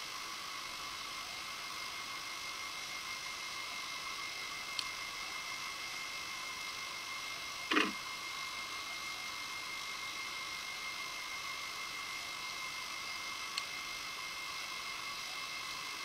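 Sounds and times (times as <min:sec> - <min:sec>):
recording hiss with whine: 0:00.0 - 0:16.0.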